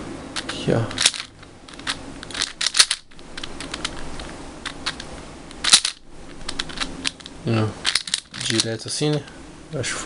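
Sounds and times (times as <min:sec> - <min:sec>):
puzzle cube plastic clacking: 0:00.4 - 0:09.3.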